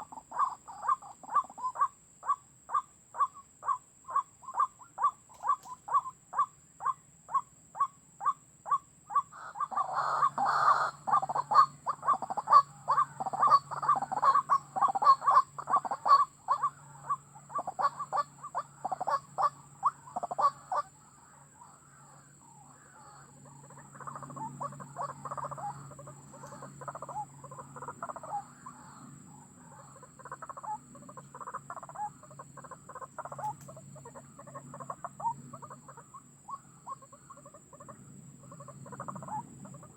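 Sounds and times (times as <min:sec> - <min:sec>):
bird croaking calls: 0:00.0 - 0:39.9.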